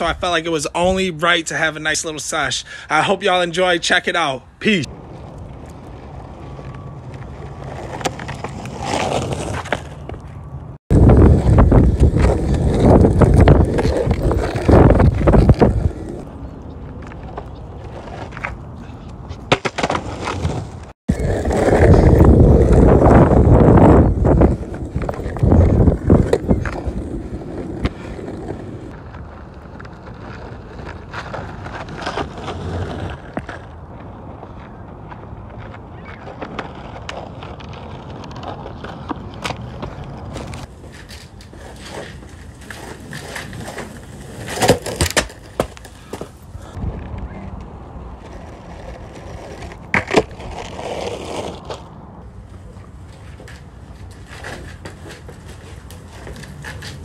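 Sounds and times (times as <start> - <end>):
longboard wheels rumbling on asphalt: 4.8 - 57.0.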